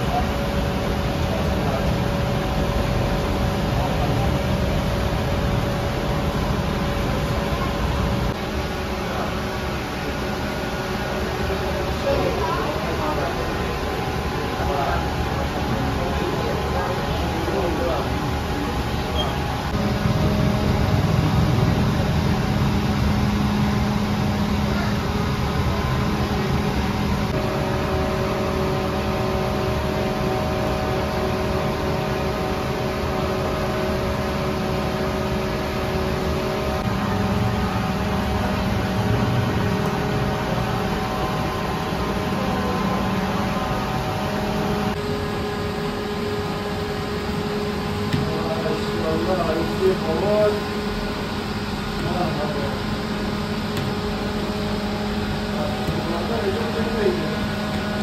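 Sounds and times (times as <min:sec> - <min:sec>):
machinery drone with hum tones: 0:00.0 - 0:58.0.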